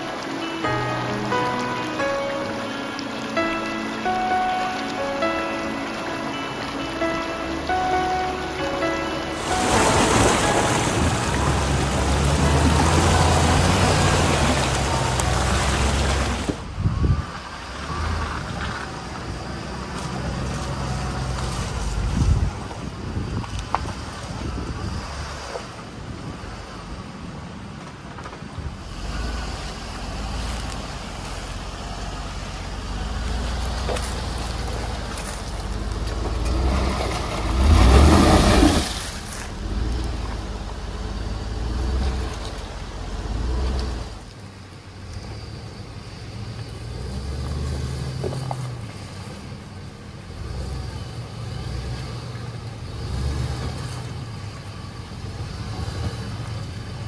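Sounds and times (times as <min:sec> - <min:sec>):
car engine under load: 0:00.0 - 0:57.0.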